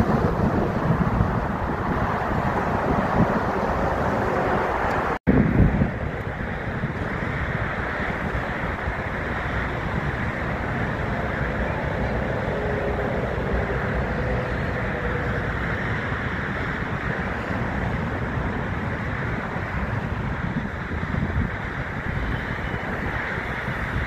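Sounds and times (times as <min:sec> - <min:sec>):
airport ground noise: 0:00.0 - 0:24.0
distant jet aircraft rumble: 0:00.0 - 0:24.0
wind buffeting microphone: 0:00.0 - 0:24.0.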